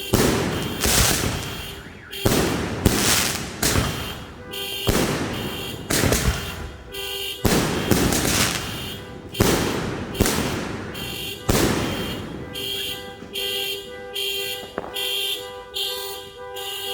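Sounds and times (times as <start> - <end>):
firework bangs with hiss: 0.0 - 15.2.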